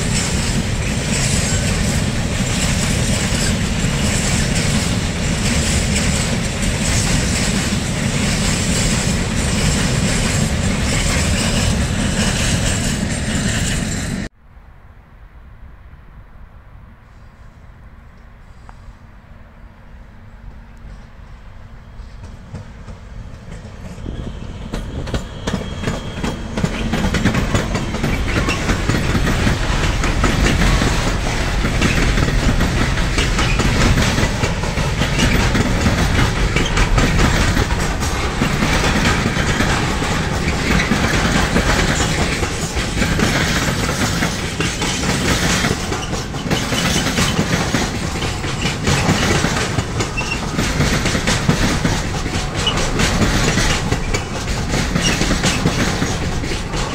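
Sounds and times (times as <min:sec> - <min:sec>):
freight train wheels clattering: 0:00.0 - 0:14.3, 0:20.8 - 0:56.9.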